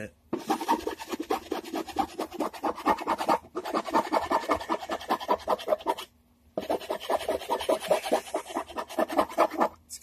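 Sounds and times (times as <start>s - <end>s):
abrasive tool scraping wood: 0.3s - 9.8s.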